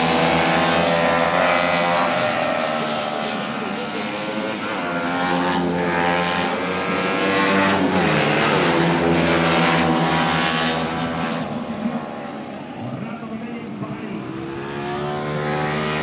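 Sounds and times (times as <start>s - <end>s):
motorcycle passing close: 0.0s - 16.0s
racing motorcycle engines revving: 0.0s - 16.0s.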